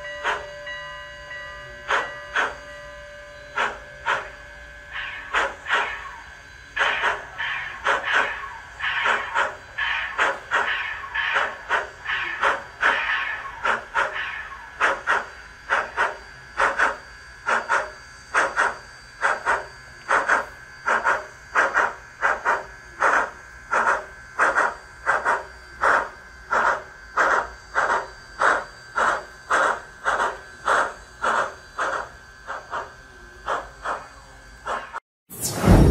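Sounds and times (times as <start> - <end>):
model steam locomotive chuffing: 0.0 - 35.0.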